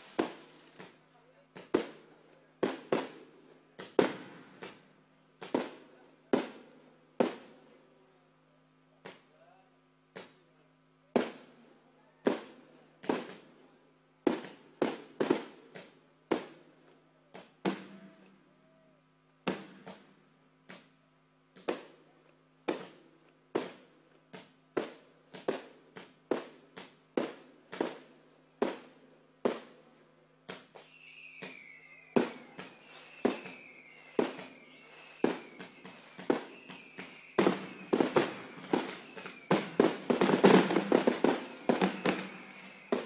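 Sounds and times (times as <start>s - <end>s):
fireworks bursting with bangs: 0.0s - 7.7s, 11.1s - 13.6s, 14.2s - 18.5s, 19.4s - 29.8s, 30.4s - 43.0s.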